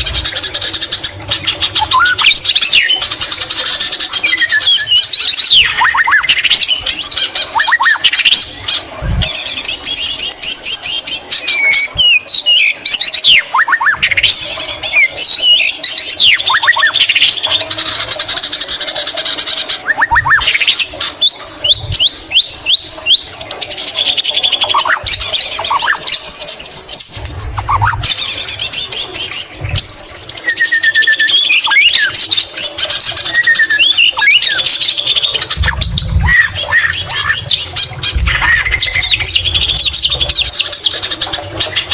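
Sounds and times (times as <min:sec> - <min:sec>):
bird singing trills and whistles: 0:00.0 - 0:41.9.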